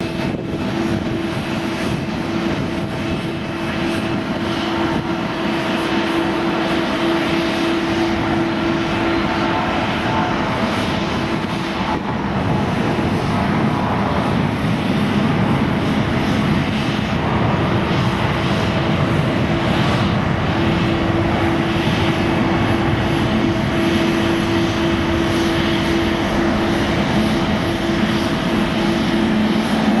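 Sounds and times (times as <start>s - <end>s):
jet engines at high thrust: 0.0s - 30.0s.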